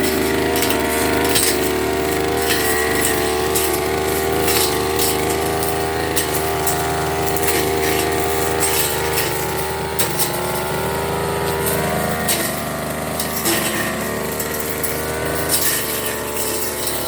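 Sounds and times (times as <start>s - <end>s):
blade ticking against stems: 0.0s - 17.0s
brush cutter engine running: 0.0s - 17.0s.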